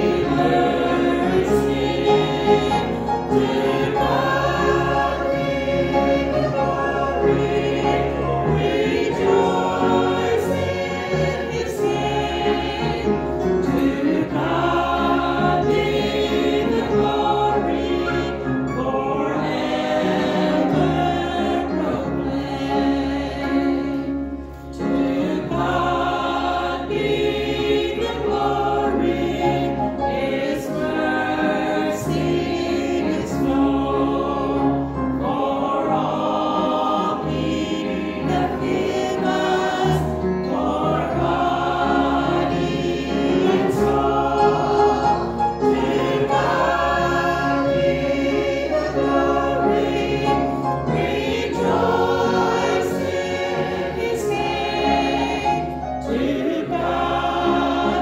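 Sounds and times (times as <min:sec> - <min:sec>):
congregation singing a hymn: 0:00.0 - 0:58.0
instrumental accompaniment: 0:00.0 - 0:58.0.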